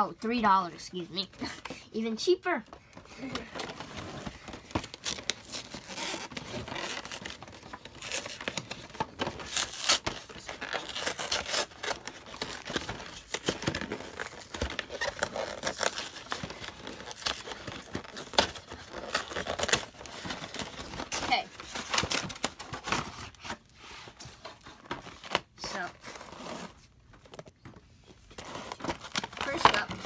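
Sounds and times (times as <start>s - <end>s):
cardboard rustling and scraping: 3.2s - 30.0s.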